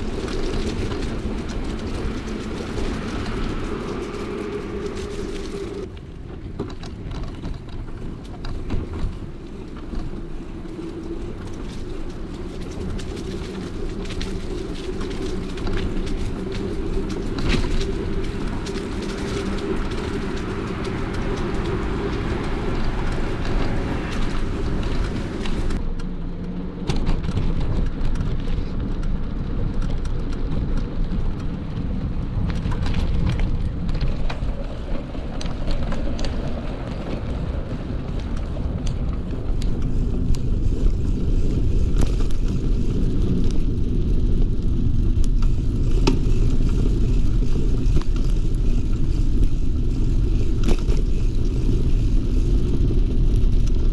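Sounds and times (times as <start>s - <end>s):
bicycle clicks and rattles: 0.0s - 53.9s
wind and tyres rolling: 0.0s - 53.9s.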